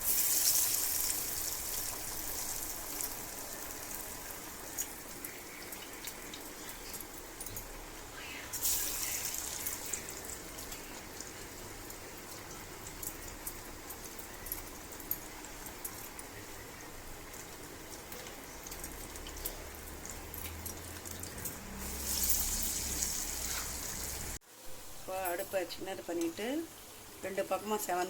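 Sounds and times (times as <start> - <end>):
deep-frying sizzle with pops: 0.0 - 28.0.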